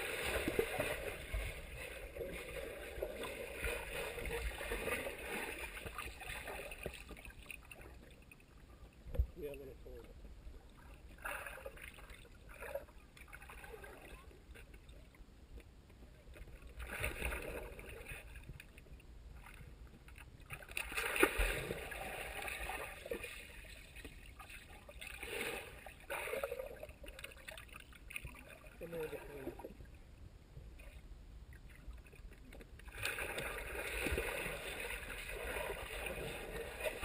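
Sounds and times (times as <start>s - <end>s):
muffled underwater water sloshing: 0.0s - 37.0s.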